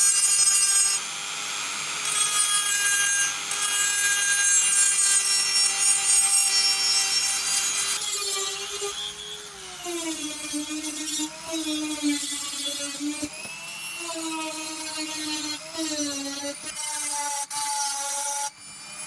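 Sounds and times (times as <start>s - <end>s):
power tool abrading a surface: 0.0s - 19.0s.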